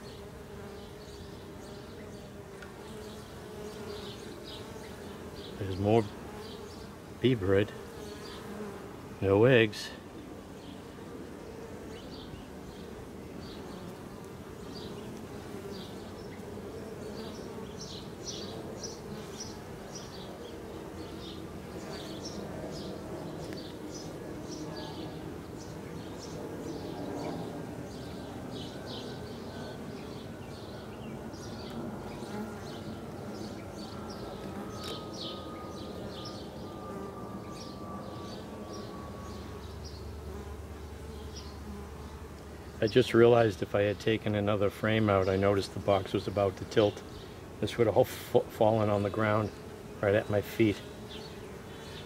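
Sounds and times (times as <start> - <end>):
bee swarm buzzing: 0.0 - 52.0.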